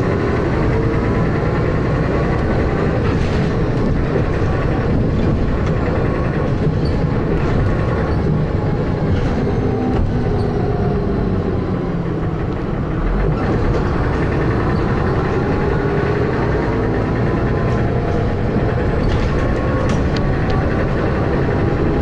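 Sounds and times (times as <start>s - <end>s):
bus diesel engine knocking: 0.0s - 22.0s.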